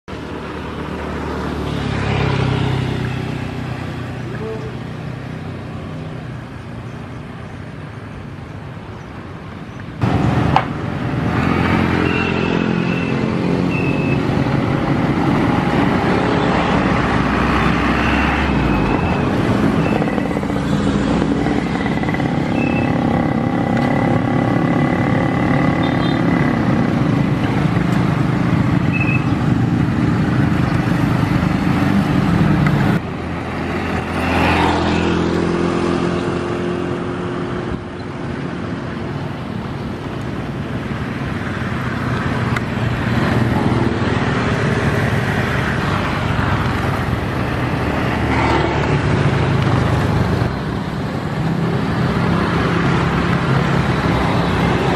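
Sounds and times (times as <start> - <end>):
larger vehicles passing: 0.1 - 54.9
motorcycles and scooters passing: 0.1 - 54.9.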